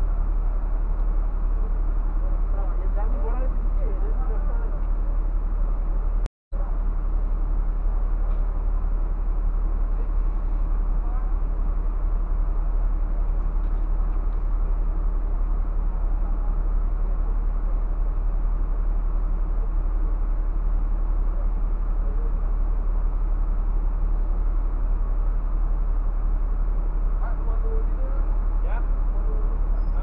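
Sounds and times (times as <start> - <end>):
diesel bus engine idling: 0.0 - 30.0.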